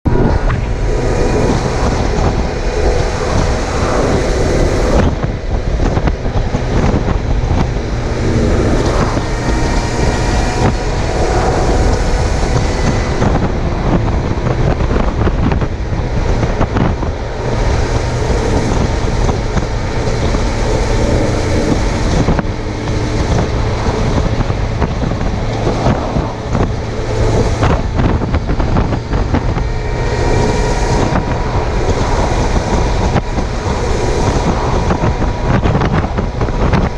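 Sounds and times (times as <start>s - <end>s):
motorcycle engine running: 0.0s - 36.9s
wind rushing over microphone: 0.0s - 36.9s.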